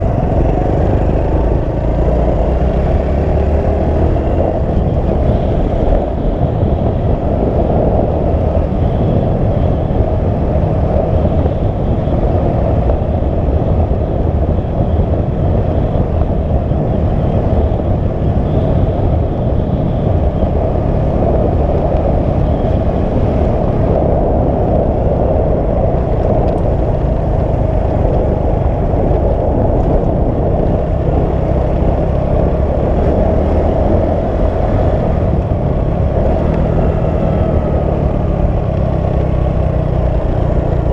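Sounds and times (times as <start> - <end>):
vehicle rumbling in motion: 0.0 - 40.9.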